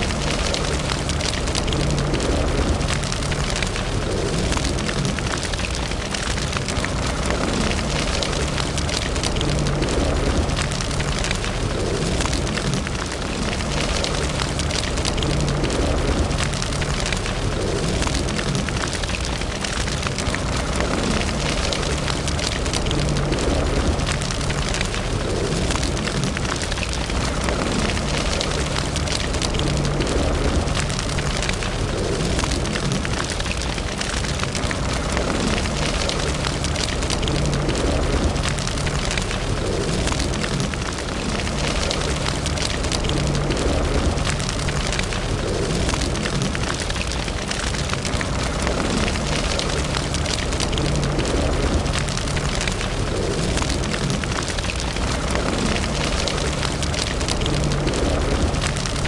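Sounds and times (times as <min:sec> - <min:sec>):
low rumble: 0:00.0 - 0:59.0
wood fire crackling: 0:00.0 - 0:59.0.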